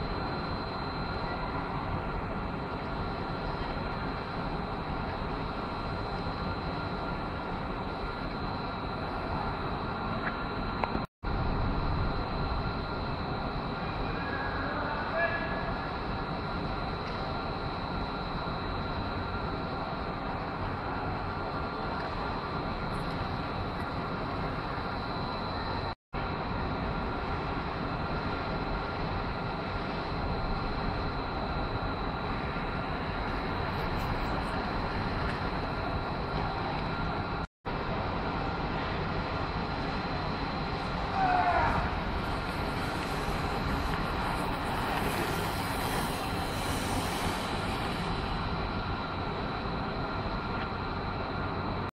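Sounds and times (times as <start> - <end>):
steady low rumble: 0.0 - 14.2, 15.7 - 51.9
bike tyres rolling on track: 0.0 - 51.9
faint high steady whine: 0.0 - 51.9
large indoor hall background noise: 0.0 - 51.9.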